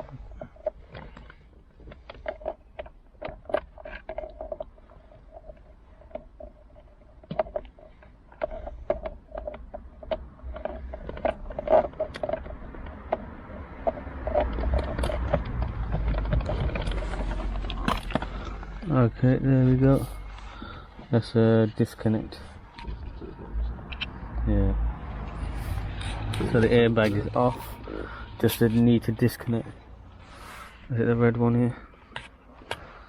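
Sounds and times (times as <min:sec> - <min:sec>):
rustling handling noise: 0:00.0 - 0:33.0.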